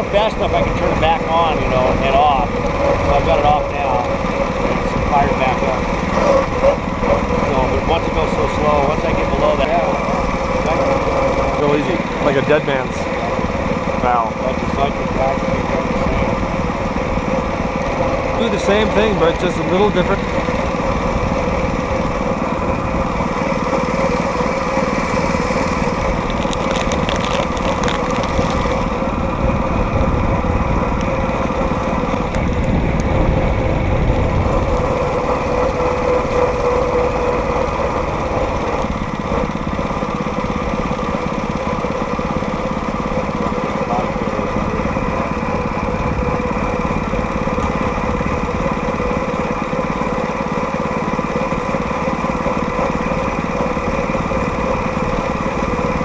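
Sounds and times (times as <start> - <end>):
small gasoline engine whining: 0.0 - 56.0.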